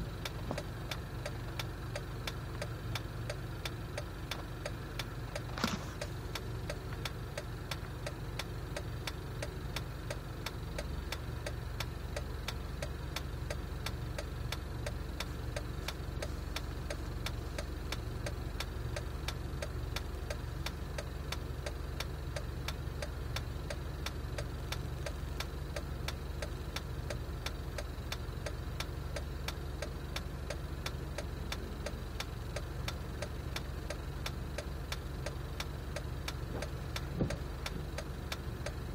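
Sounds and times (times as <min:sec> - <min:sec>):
engine idling roughly: 0:00.0 - 0:38.9
regular ticking: 0:00.0 - 0:38.9.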